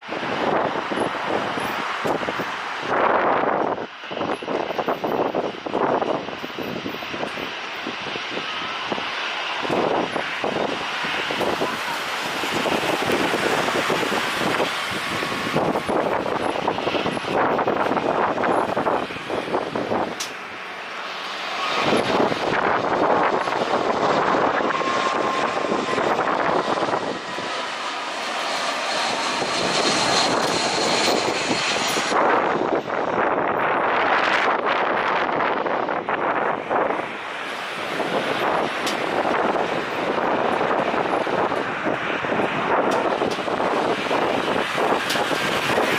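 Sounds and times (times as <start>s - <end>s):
jet engines rushing: 0.0s - 45.9s.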